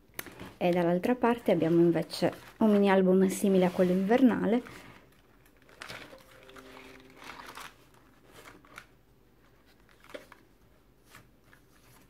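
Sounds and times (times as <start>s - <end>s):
paper pages rustling: 0.2s - 12.0s.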